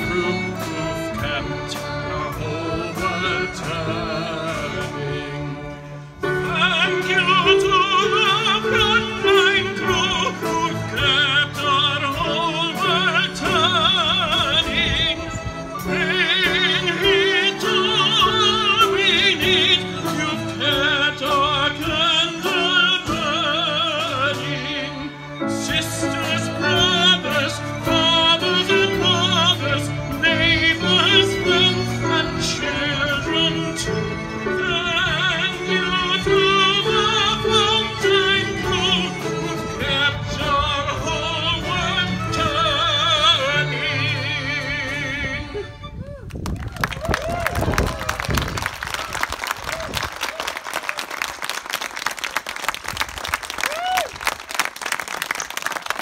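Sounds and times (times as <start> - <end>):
string orchestra playing: 0.0 - 46.5.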